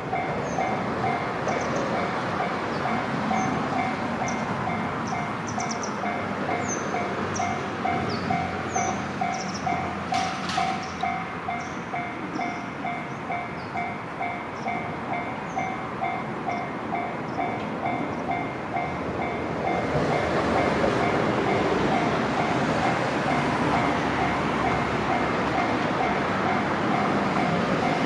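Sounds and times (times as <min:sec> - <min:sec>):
train running: 0:00.0 - 0:28.0.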